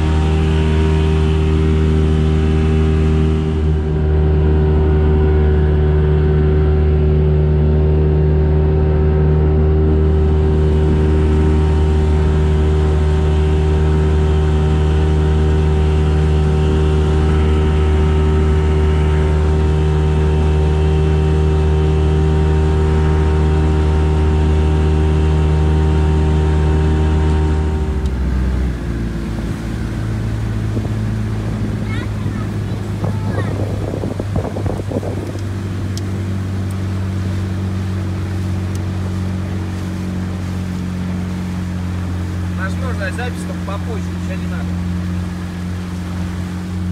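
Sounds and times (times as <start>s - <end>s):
outboard motor running: 0.0s - 46.9s.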